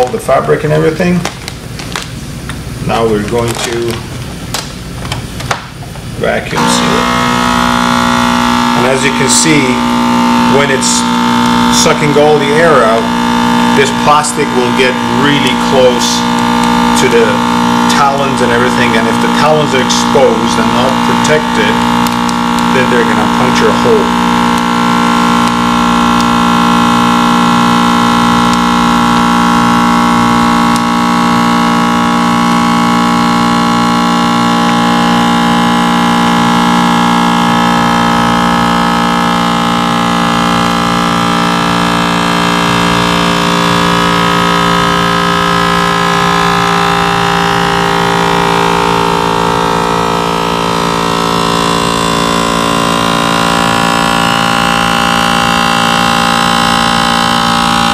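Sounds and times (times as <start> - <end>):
vacuum sealer pump motor humming: 0.0 - 57.9.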